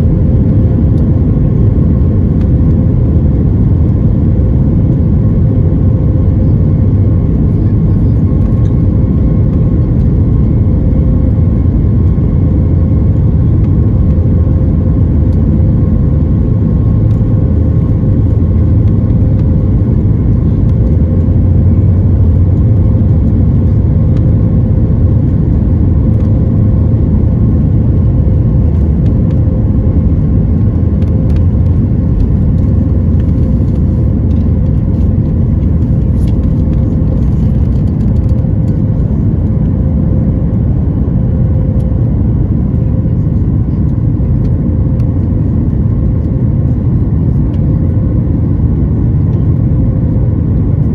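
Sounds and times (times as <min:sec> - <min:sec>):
jet engines rumbling: 0:00.0 - 0:50.9
steady hum: 0:00.0 - 0:50.9.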